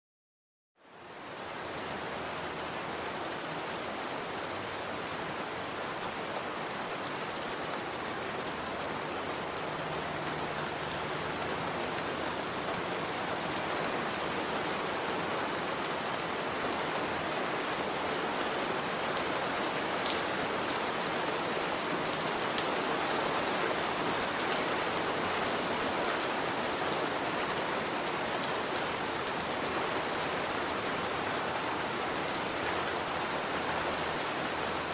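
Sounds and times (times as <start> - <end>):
heavy rain splashing on surface: 0.8 - 34.9.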